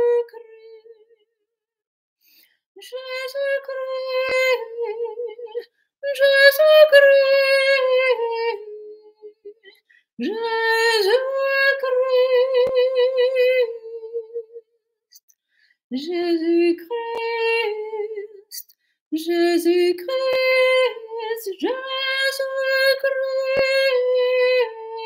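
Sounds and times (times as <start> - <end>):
woman singing unaccompanied: 0.0 - 1.0, 2.8 - 14.7, 15.9 - 25.0.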